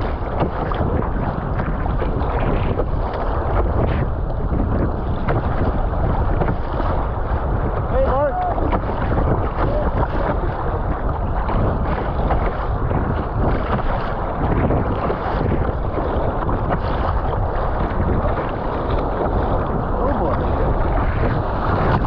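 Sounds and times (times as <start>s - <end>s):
paddle blades splashing: 0.0s - 22.0s
water rushing along a boat hull: 0.0s - 22.0s
wind buffeting microphone: 0.0s - 22.0s.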